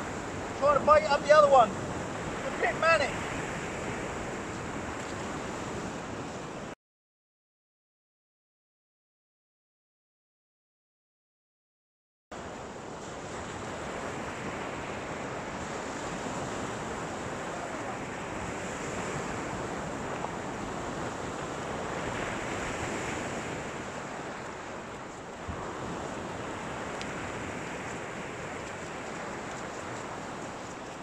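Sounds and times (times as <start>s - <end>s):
wind on microphone: 0.0s - 6.8s, 12.4s - 31.0s.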